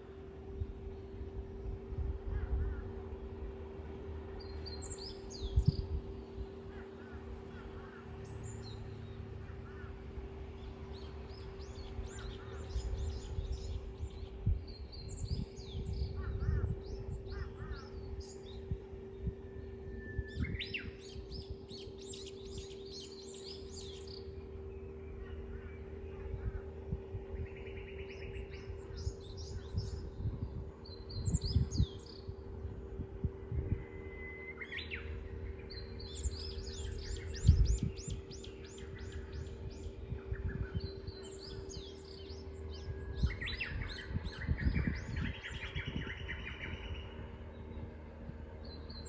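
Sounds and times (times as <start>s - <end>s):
steady low hum: 0.0s - 49.0s
uneven low rumble: 0.0s - 49.0s
birds chirping and trilling: 0.1s - 49.0s.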